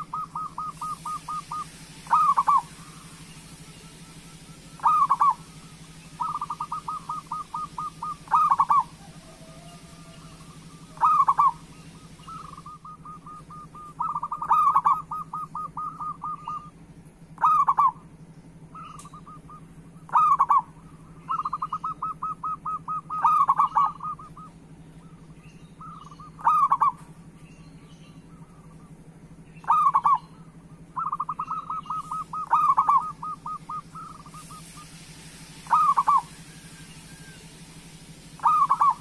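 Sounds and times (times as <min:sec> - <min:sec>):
doves cooing: 0:00.0 - 0:27.4, 0:28.1 - 0:39.0.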